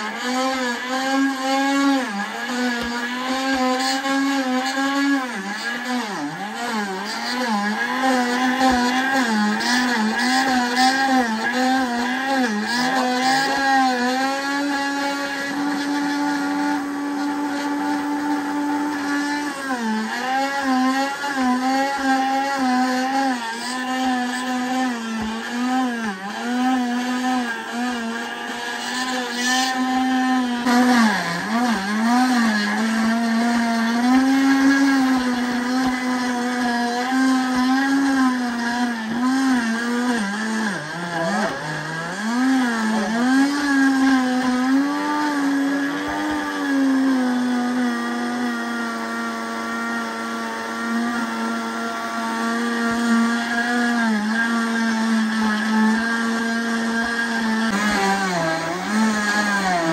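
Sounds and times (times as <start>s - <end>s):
blender motor crushing fruit: 0.0s - 59.9s.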